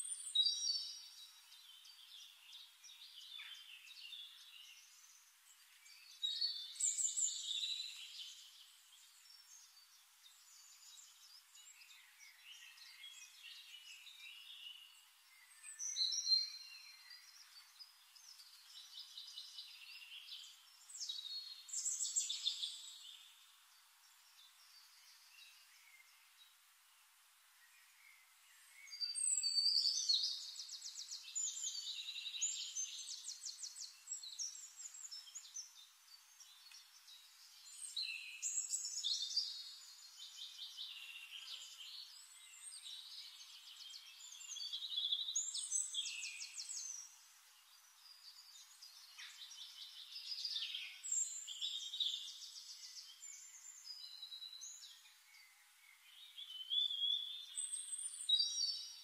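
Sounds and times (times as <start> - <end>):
songbird trills and whistles: 0.0 - 23.4, 27.7 - 47.2, 48.0 - 59.0.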